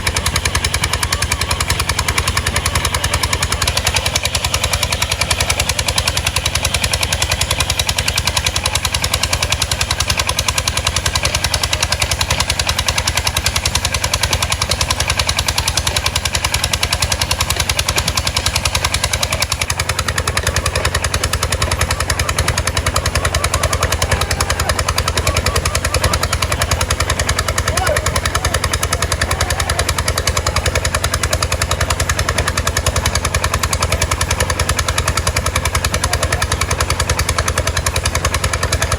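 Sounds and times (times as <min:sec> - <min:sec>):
boat engine chugging: 0:00.0 - 0:38.9.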